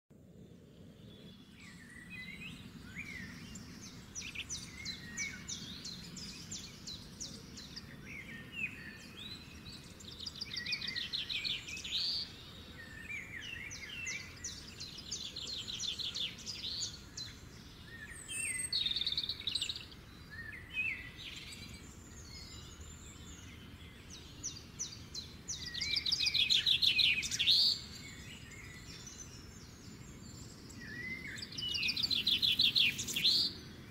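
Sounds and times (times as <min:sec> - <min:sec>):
low background noise: 0:00.1 - 0:33.9
songbirds trilling and chirping: 0:00.2 - 0:33.9.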